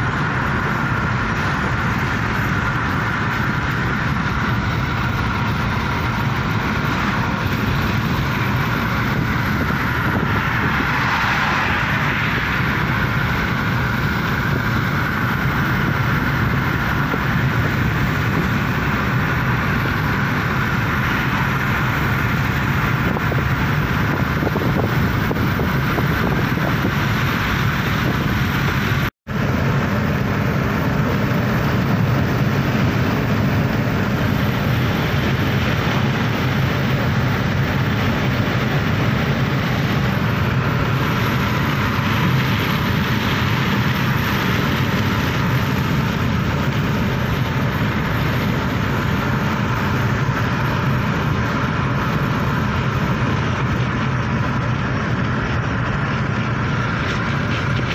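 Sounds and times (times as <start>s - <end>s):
car cabin road and engine noise: 0.0s - 57.9s.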